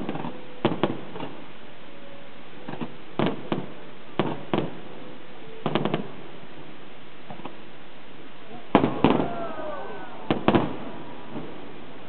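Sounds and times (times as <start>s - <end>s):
fireworks bangs: 0.0s - 1.5s, 2.6s - 7.7s, 8.4s - 12.0s
steady hiss: 0.0s - 12.0s.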